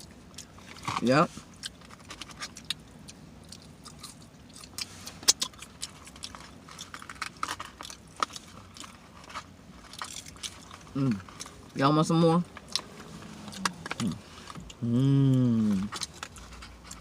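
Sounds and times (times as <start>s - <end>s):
chewing with lip-smacking: 0.0s - 11.8s, 12.5s - 17.0s.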